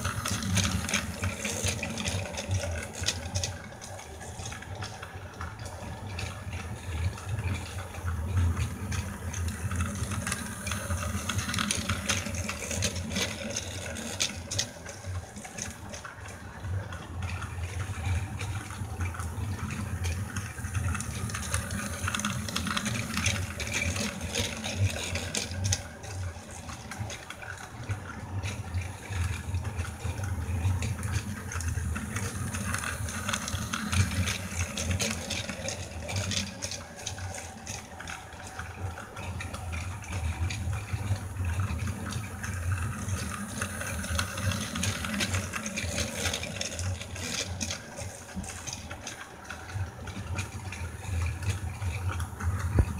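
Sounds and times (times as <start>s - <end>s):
toy train motor whirring: 0.0s - 16.7s, 17.4s - 52.9s
wheels rattling on plastic track: 0.0s - 52.9s.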